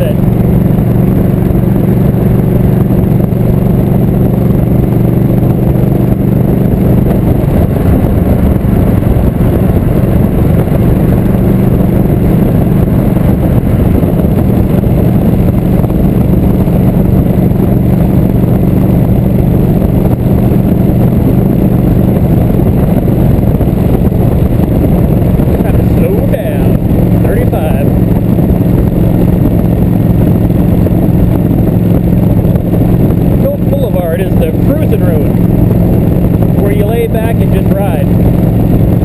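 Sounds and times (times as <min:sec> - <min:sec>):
motorcycle engine cruising: 0:00.0 - 0:39.0
wind noise on microphone: 0:00.0 - 0:39.0.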